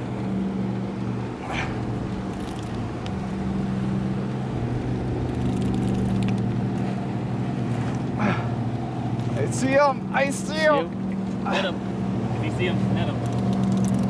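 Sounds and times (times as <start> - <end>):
boat motor idling: 0.0 - 14.0.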